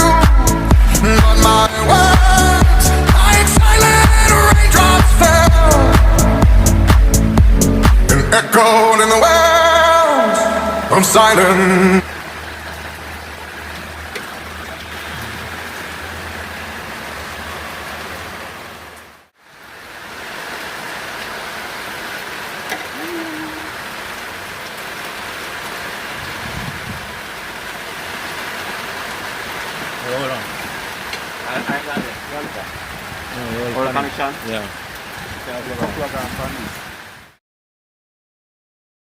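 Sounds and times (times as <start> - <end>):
steady rain-like hiss: 0.0 - 7.9, 9.6 - 37.4.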